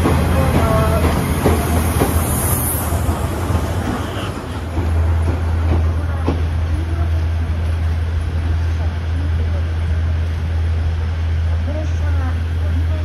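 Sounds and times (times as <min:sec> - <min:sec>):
train coach rumbling: 0:00.0 - 0:13.0.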